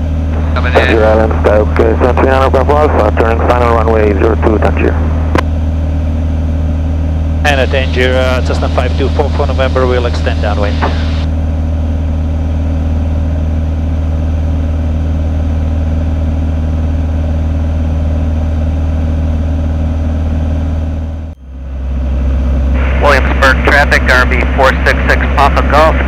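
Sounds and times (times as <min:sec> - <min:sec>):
propeller plane engine droning: 0:00.0 - 0:26.0.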